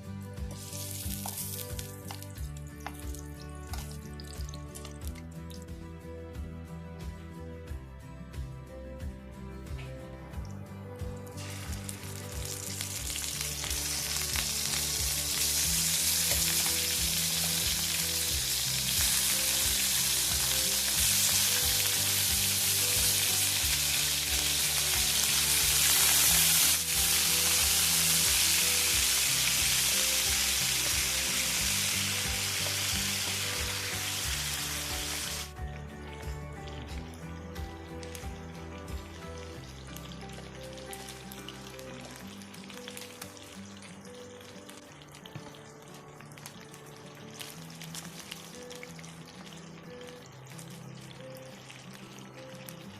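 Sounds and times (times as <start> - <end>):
background music: 0.0 - 52.9
food sizzling in hot oil: 0.4 - 5.0, 11.3 - 35.6, 39.0 - 52.9.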